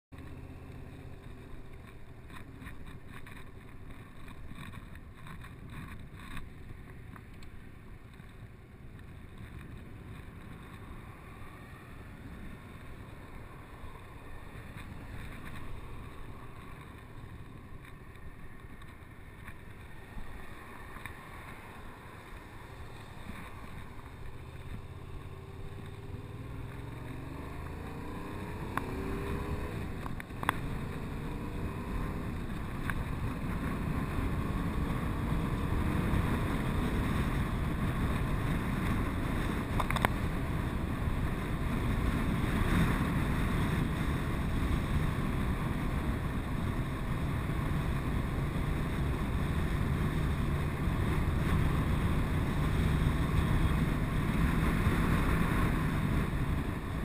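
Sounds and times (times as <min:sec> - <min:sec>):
motorcycle engine running: 0:00.2 - 0:57.0
wind rushing over microphone: 0:08.5 - 0:57.0.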